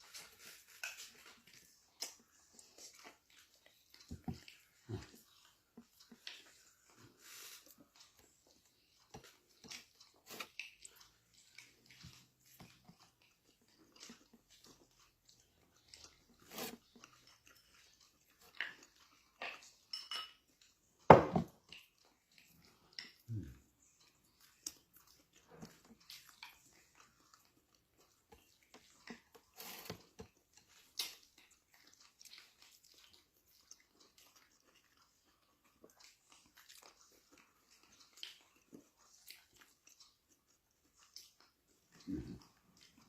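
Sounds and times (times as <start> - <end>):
person chewing and crunching: 0.0 - 43.0.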